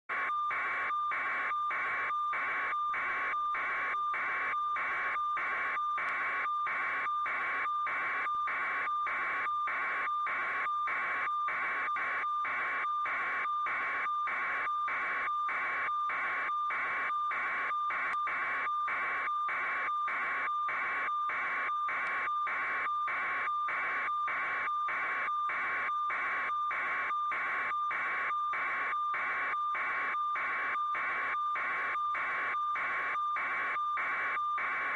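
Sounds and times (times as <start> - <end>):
pulsing electronic static: 0.1 - 34.9.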